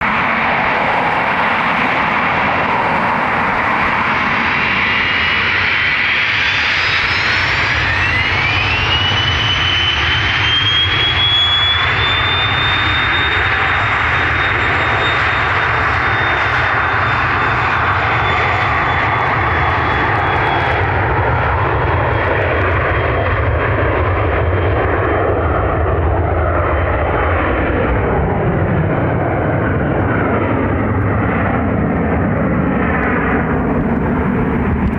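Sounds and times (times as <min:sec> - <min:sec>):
loud jet rush: 0:00.0 - 0:23.0, 0:26.6 - 0:34.9
jet engine whine: 0:00.0 - 0:34.9.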